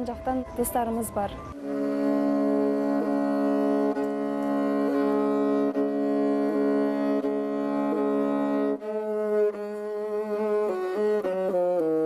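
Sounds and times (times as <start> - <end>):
low droning note: 0.0 - 12.0.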